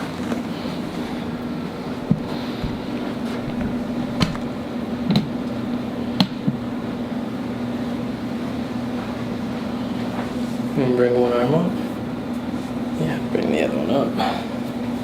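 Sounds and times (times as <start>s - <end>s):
ventilation hum: 0.0s - 15.0s.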